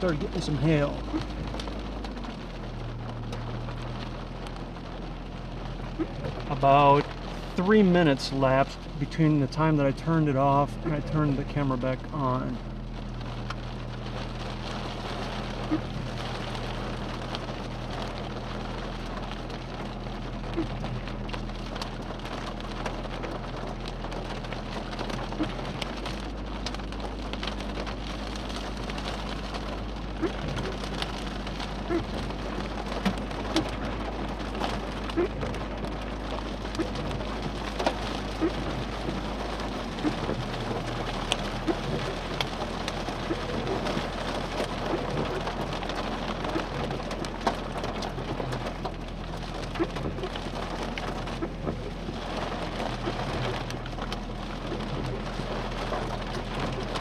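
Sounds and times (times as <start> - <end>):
raindrops tapping hard surface: 0.0 - 57.0
steady rain: 0.0 - 57.0.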